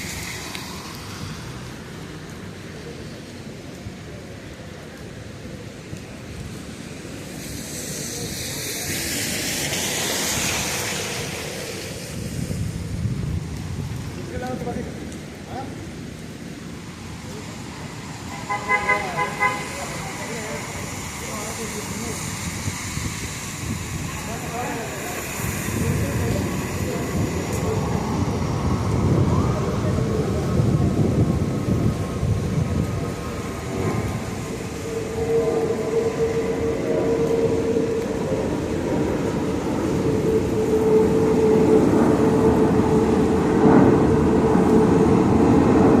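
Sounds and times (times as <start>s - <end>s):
steady rain: 0.0s - 46.0s
vehicle passing on wet pavement: 0.0s - 46.0s
subway train rumbling: 3.9s - 46.0s.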